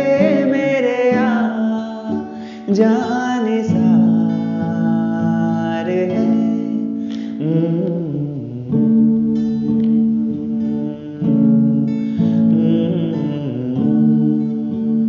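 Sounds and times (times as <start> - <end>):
man singing long notes: 0.0 - 9.3, 10.3 - 15.0
strummed acoustic guitar: 0.0 - 15.0.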